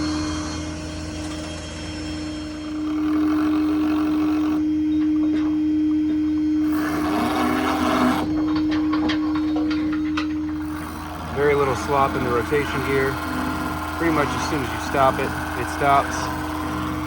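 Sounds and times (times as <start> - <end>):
crane hydraulics humming: 0.0 - 17.0.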